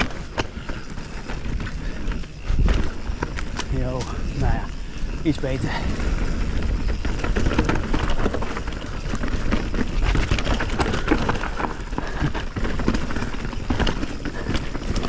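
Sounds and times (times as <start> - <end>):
bike clattering over bumps: 0.0 - 15.0
bike tyres rolling over dirt: 0.0 - 15.0.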